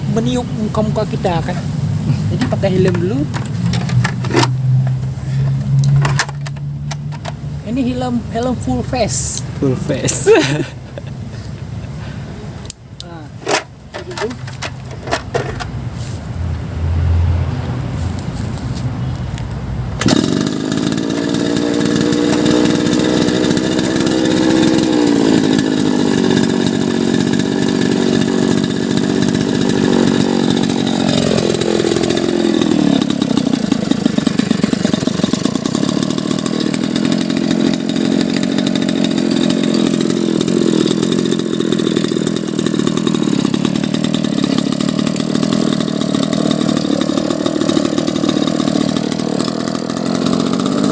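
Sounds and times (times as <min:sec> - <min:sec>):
small petrol engine running: 0:00.0 - 0:11.0, 0:13.0 - 0:15.7, 0:20.0 - 0:50.9.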